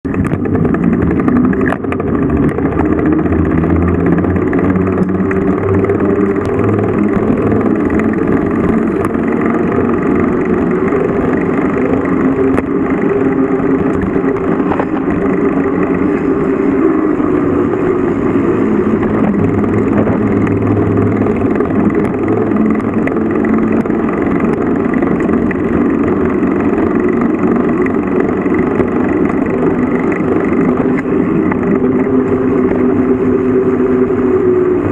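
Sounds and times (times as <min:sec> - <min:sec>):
vehicle engine while driving: 0:00.0 - 0:34.9.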